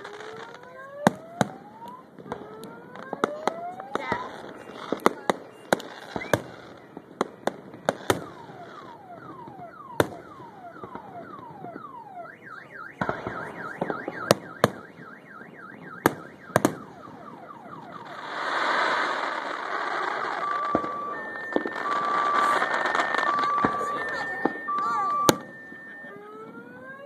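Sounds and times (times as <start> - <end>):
firework bangs: 0.0 - 26.1
firework whistling tones: 2.4 - 11.8, 12.6 - 26.4.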